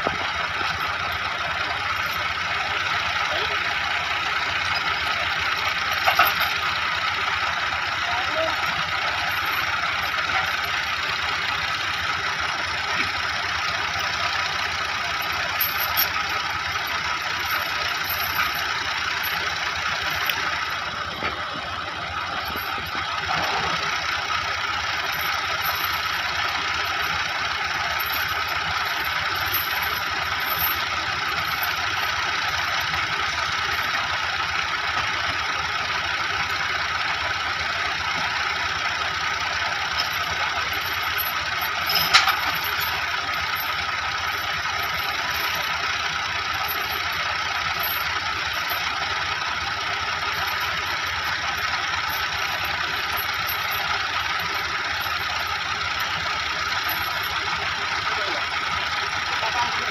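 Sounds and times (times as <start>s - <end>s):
diesel tractor engines idling: 0.0s - 59.9s.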